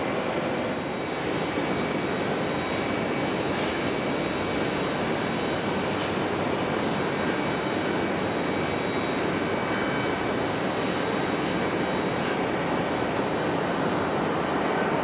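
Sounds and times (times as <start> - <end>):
faint high engine whine: 0.0 - 15.0
jet airliner engine rumble: 0.0 - 15.0.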